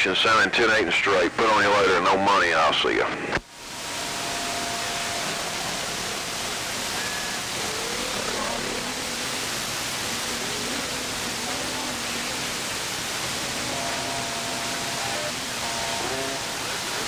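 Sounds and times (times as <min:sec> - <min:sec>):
faint steady radio tones: 0:00.0 - 0:17.0
radio receiver hiss: 0:00.0 - 0:17.0.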